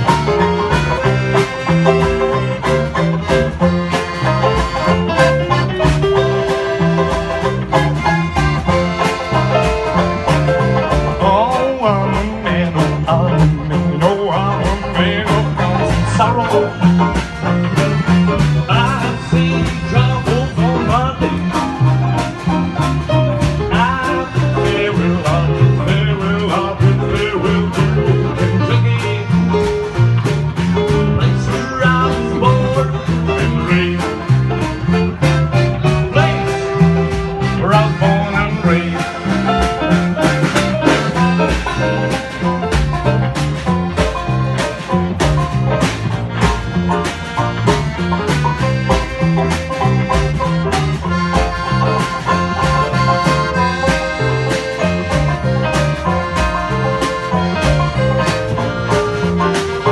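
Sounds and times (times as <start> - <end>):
banjo: 0.0 - 59.9
bass line: 0.0 - 59.9
plucked guitar: 0.0 - 59.9
sliding lead line: 0.0 - 59.9.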